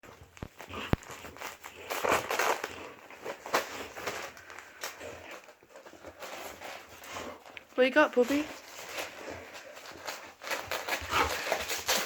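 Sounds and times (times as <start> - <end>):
gift wrap rustling and tearing: 0.0 - 12.0.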